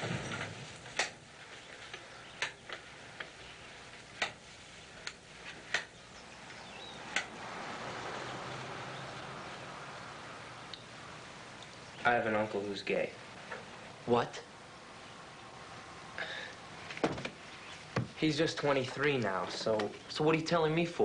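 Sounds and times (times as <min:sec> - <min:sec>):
soft even hiss: 0:00.0 - 0:20.5.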